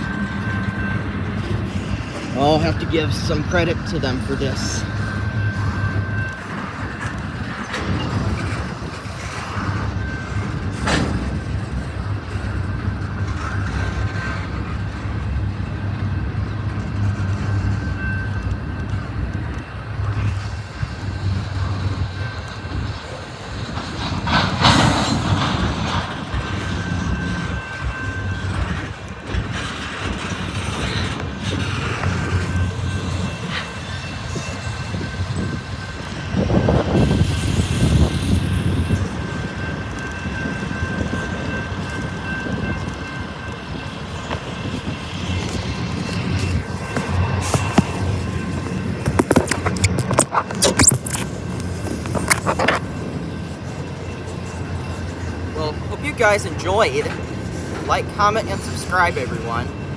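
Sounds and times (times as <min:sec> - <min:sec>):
freight train wheels clattering: 0:00.0 - 0:59.9
high whine from wheels: 0:00.0 - 0:59.9.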